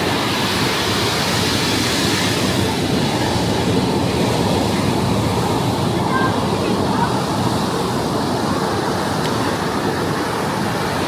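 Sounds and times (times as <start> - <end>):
ocean surf rushing: 0.0 - 11.0
wind: 0.0 - 11.0.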